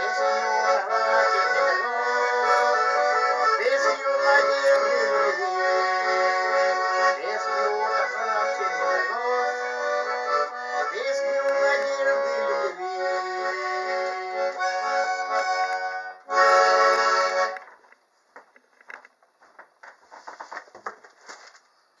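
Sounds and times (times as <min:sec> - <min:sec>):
accordion playing: 0:00.0 - 0:17.7.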